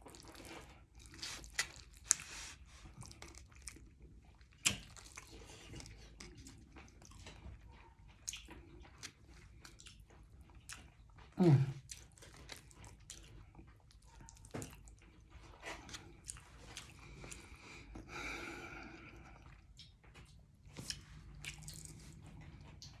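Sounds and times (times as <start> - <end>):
close-up chewing: 0.0 - 23.0.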